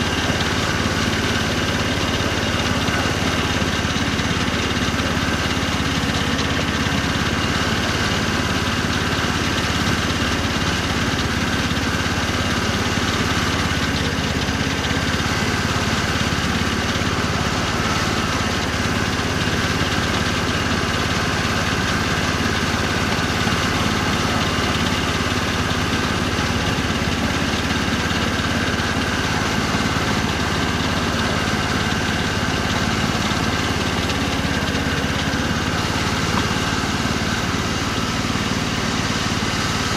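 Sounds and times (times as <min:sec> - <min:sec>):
miniature locomotive engine running: 0:00.0 - 0:39.9.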